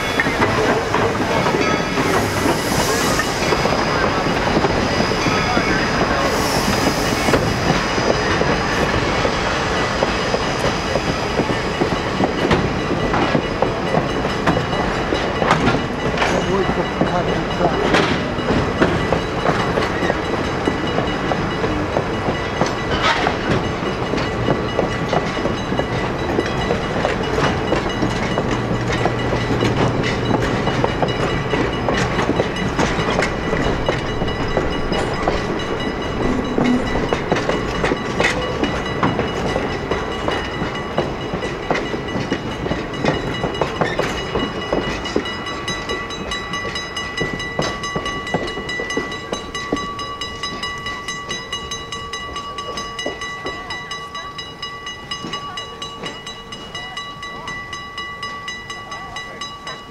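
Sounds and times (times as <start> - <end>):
train wheels clacking over rail joints: 0.0 - 51.4
crossing signal bell ringing: 0.0 - 59.9.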